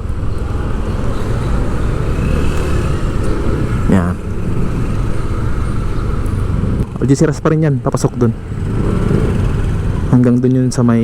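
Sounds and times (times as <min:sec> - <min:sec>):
road noise: 0:00.0 - 0:11.0
vehicle engine: 0:00.0 - 0:11.0.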